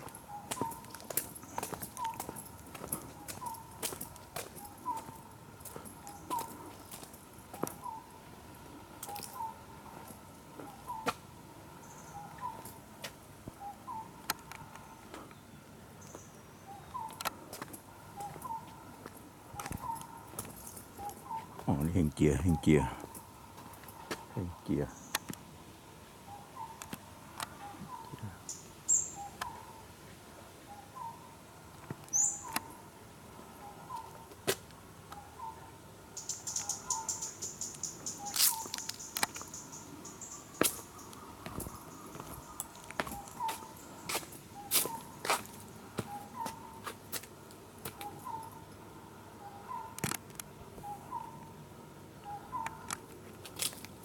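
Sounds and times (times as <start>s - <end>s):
birds chirping: 0.0s - 30.0s, 30.6s - 34.4s, 35.0s - 54.0s.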